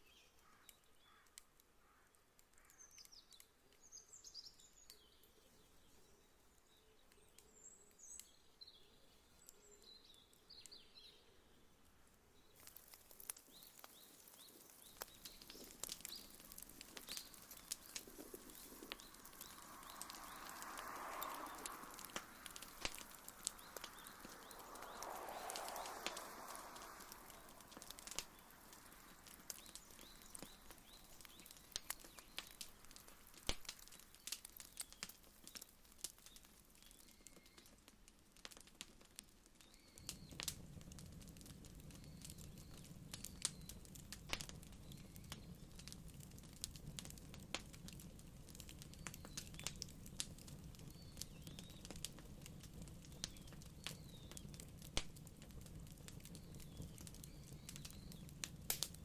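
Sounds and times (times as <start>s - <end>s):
birds chirping: 0.0s - 37.8s, 41.4s - 58.6s
wood fire crackling: 0.0s - 59.0s.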